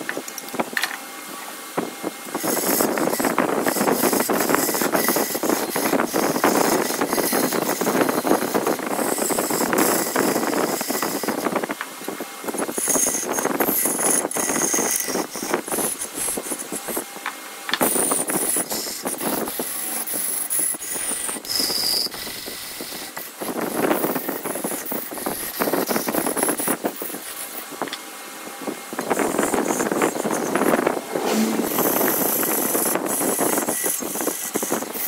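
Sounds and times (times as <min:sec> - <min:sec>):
tool scraping spinning wood: 0:01.8 - 0:28.0, 0:29.0 - 0:35.0
wood lathe turning: 0:02.1 - 0:28.1, 0:28.7 - 0:35.0.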